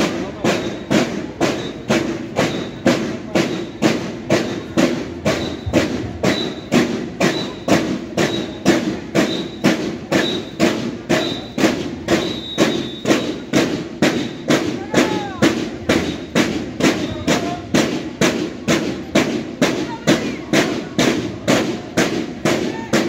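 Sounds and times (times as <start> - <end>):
drums beating march cadence: 0.0 - 23.0.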